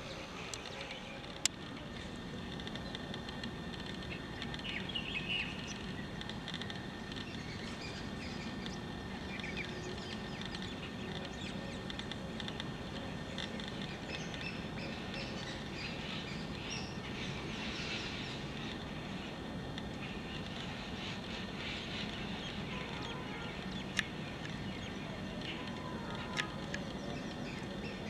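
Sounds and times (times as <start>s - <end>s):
outdoor background hum: 0.0s - 28.0s
small birds chirping: 0.0s - 28.0s.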